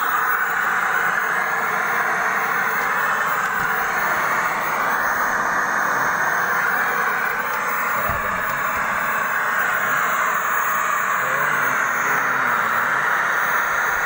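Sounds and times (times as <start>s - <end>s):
loud static hiss from tv speaker: 0.0s - 14.0s.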